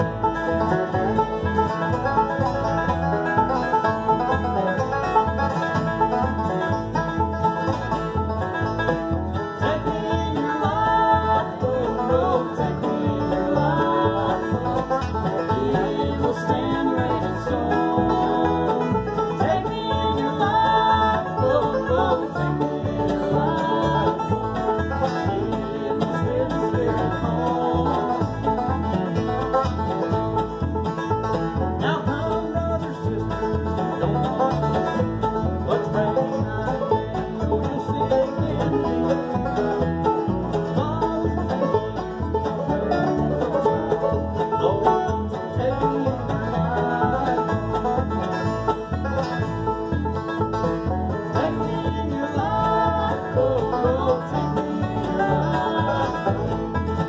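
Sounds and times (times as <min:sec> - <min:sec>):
acoustic guitar: 0:00.0 - 0:57.0
banjo: 0:00.0 - 0:57.0
fiddle: 0:00.0 - 0:57.0
upright bass plucking: 0:00.0 - 0:57.0.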